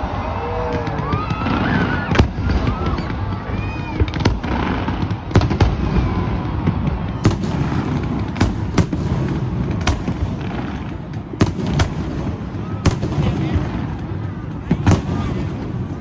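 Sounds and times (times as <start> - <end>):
fireworks rumble: 0.0 - 16.0
fireworks sharp bangs: 0.0 - 16.0.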